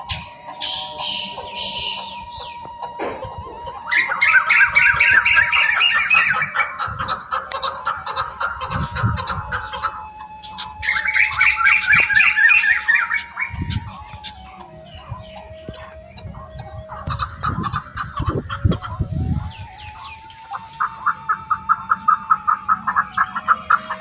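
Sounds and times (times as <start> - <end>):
birds squawking: 0.0 - 24.0.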